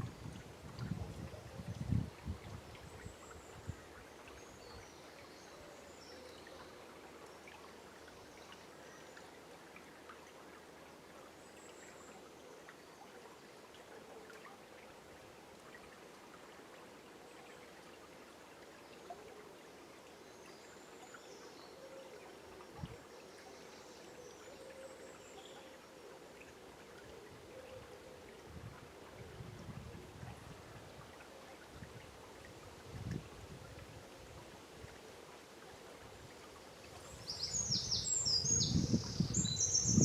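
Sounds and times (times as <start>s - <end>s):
river water babbling: 0.0s - 40.0s.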